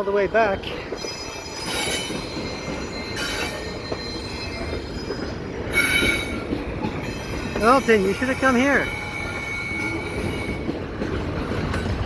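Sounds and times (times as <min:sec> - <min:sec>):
freight cars rolling with low rumble: 0:00.0 - 0:12.0
steel wheels squealing on rails: 0:00.0 - 0:12.0.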